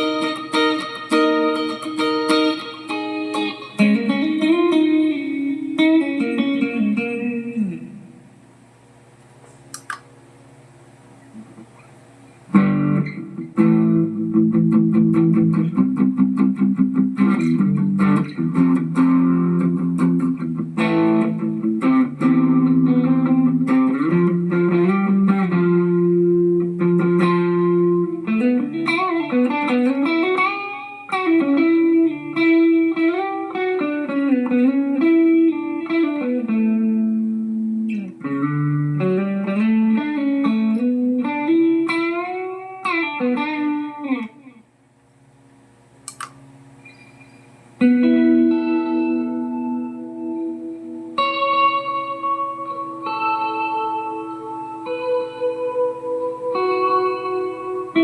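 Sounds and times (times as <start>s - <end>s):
electric guitar chords and lead: 0.0s - 8.5s, 12.5s - 44.7s, 46.8s - 58.0s.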